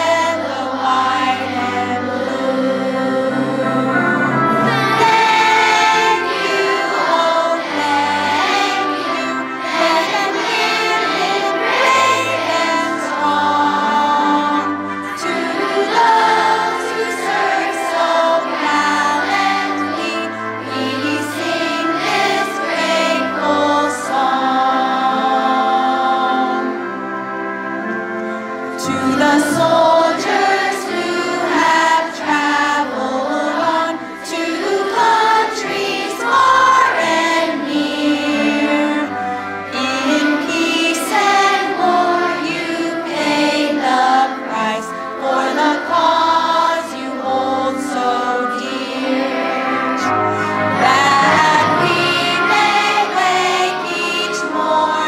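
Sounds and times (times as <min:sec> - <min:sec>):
children's choir singing: 0:00.0 - 0:55.0
instrumental accompaniment: 0:00.0 - 0:55.0.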